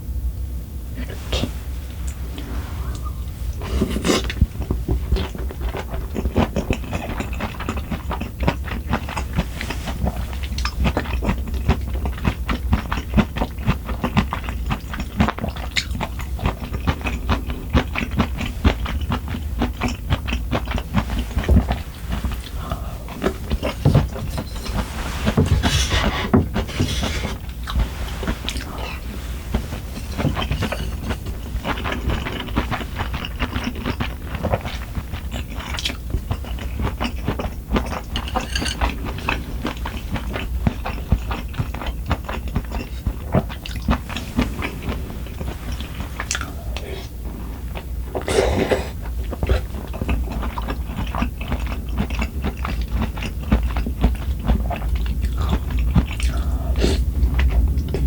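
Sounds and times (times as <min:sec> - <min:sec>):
chewing and biting food: 0:03.0 - 0:58.0.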